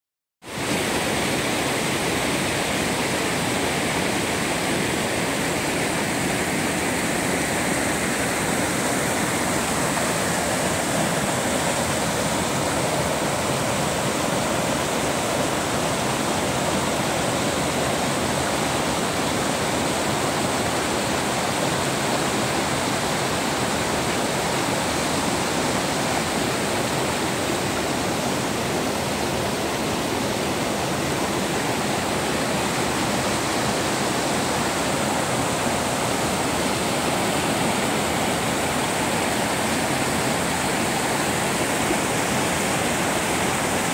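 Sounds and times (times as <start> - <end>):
stream rushing over boulders: 0.4 - 43.9.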